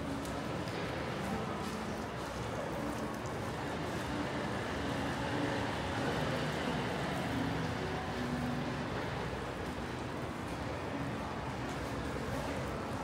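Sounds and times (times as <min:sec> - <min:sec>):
street crowd hubbub: 0:00.0 - 0:13.0.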